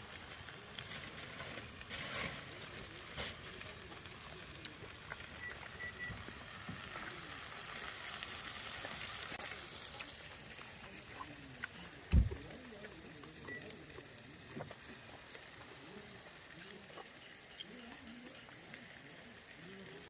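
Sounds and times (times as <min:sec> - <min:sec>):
fat popping and crackling: 0:00.0 - 0:20.0
meat sizzling on a grill: 0:00.0 - 0:20.0.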